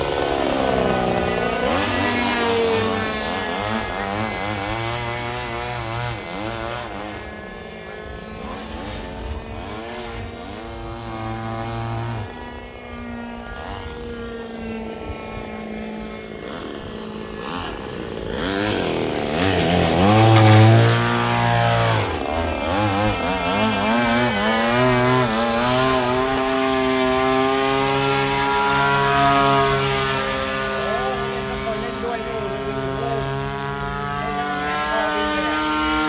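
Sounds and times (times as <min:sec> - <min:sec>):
model airplane propeller engines: 0:00.0 - 0:36.0.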